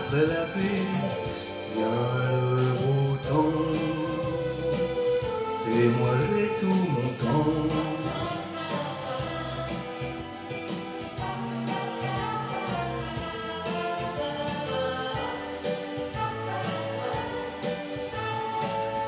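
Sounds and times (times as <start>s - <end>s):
instrumental pop backing track: 0.0s - 19.0s.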